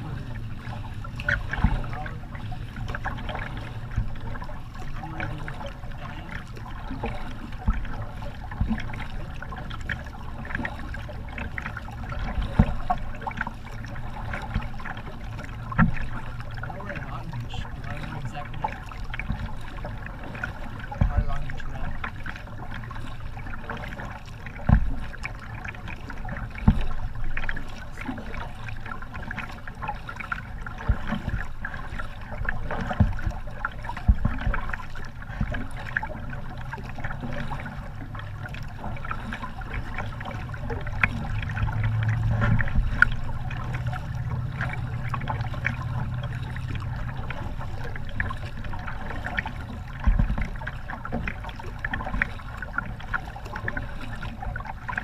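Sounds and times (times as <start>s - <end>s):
paddle splashing water: 0.0s - 55.0s
water trickling off paddle: 0.0s - 55.0s.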